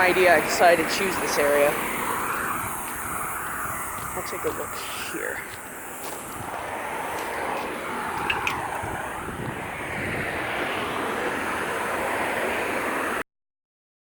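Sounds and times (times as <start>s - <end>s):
road traffic rushing: 0.0s - 13.3s.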